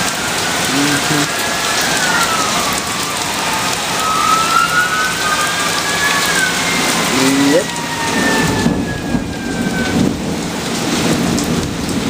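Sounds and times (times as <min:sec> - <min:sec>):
faint emergency sirens wailing: 0:00.0 - 0:12.0
heavy rain pouring: 0:00.0 - 0:12.0.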